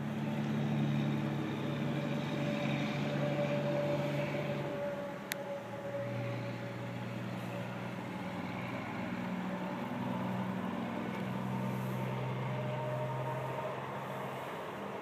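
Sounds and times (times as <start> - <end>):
mechanical humming drone: 0.0 - 14.5.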